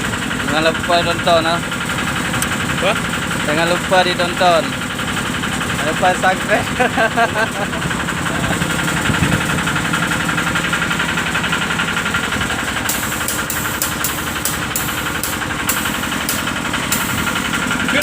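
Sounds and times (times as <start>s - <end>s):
excavator engine idling: 0.0s - 18.0s.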